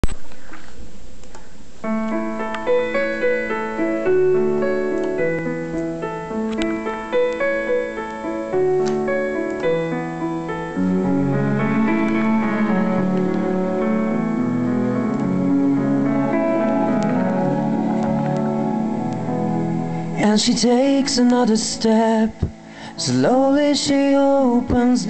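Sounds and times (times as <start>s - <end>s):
piano playing pop intro: 1.9s - 25.0s.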